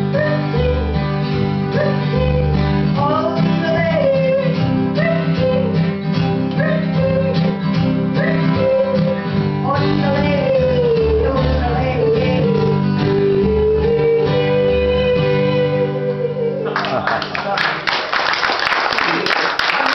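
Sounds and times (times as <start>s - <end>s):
strummed guitar chords: 0.0s - 17.3s.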